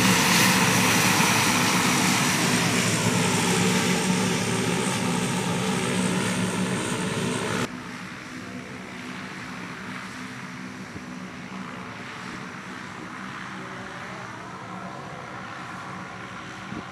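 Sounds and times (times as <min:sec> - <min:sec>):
turboprop engines droning: 0:00.0 - 0:16.9.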